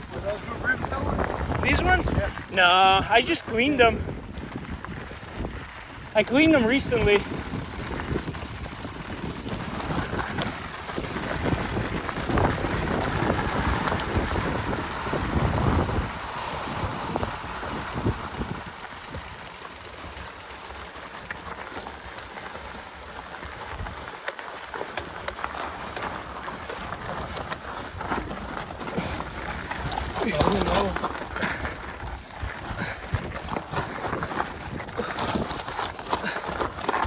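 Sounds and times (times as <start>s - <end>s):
bike tyres rumbling on dirt: 0.0s - 37.0s.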